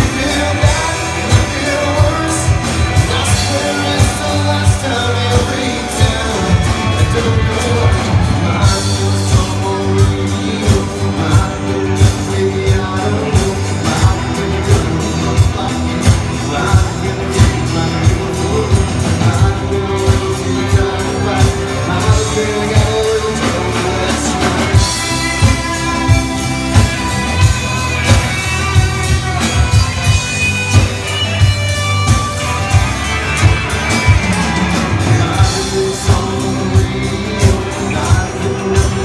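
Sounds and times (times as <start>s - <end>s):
drums beating: 0.0s - 39.0s
electric guitar: 0.0s - 39.0s
higher melody line: 0.0s - 39.0s
person singing: 0.0s - 39.0s.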